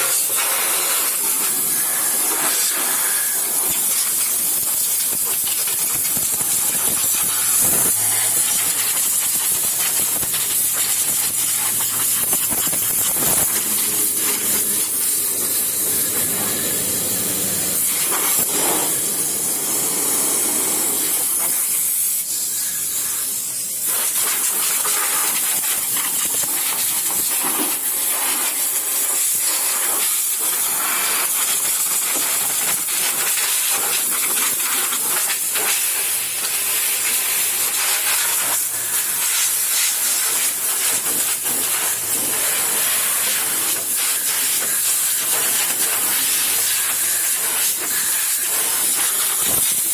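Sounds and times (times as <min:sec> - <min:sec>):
high-pitched hissing noise: 0:00.0 - 0:49.9.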